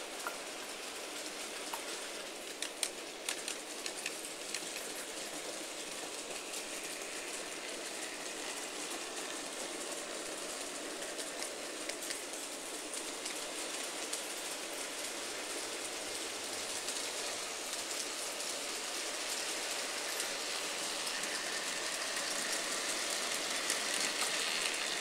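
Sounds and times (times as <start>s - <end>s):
model trains running on track: 0.0s - 25.0s.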